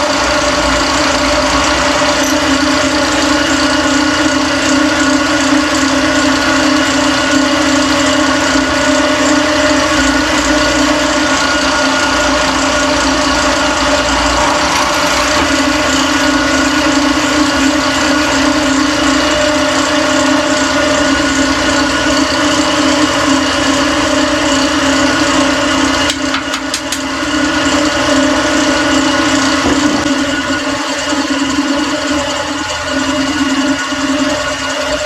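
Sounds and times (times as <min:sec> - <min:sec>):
drill press motor humming: 0:00.0 - 0:35.0.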